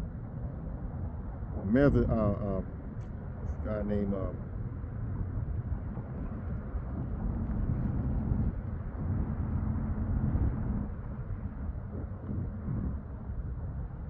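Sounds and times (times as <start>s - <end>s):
faint hum: 0.0s - 14.0s
outdoor background rumble: 0.0s - 14.0s.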